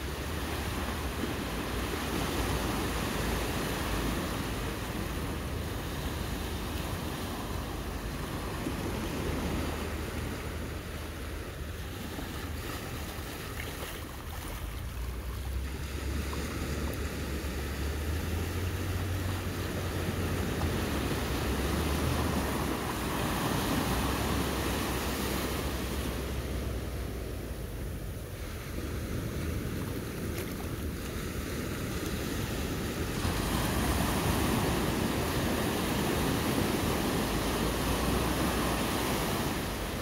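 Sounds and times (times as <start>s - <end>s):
small waves breaking on beach: 0.0s - 40.0s.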